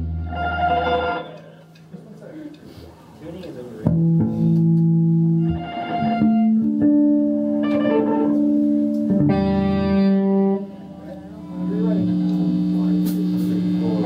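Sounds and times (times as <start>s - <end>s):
electric guitars strumming chords: 0.0s - 1.9s, 3.9s - 14.0s.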